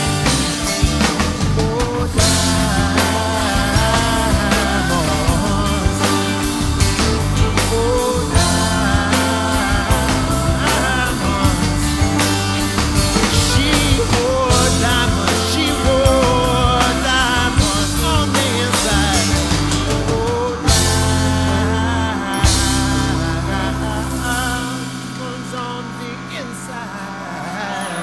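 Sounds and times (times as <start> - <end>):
rock music with singing: 0.0 - 28.0.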